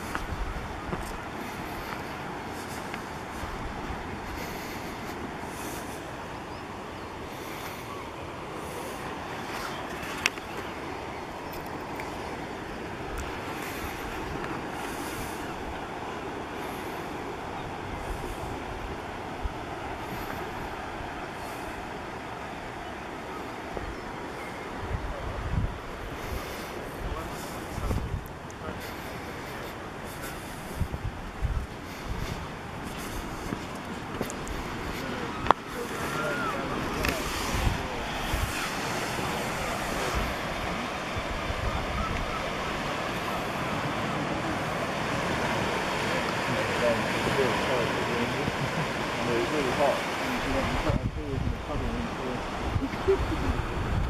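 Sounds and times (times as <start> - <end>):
surf breaking over rocks: 0.0 - 54.0
wind buffeting microphone: 0.0 - 54.0.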